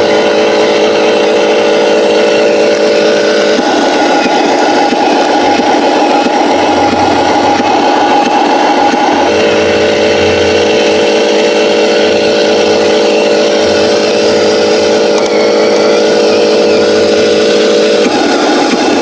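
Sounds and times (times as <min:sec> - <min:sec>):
model truck motor drone: 0:00.0 - 0:19.0
faint wavering whine: 0:02.4 - 0:19.0.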